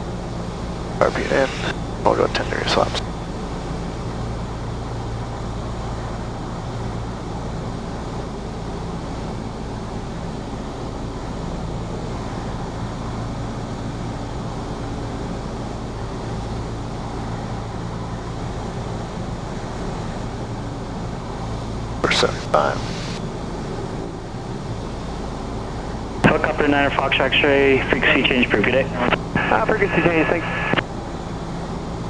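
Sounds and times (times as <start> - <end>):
airplane engine and propeller: 0.0 - 32.0.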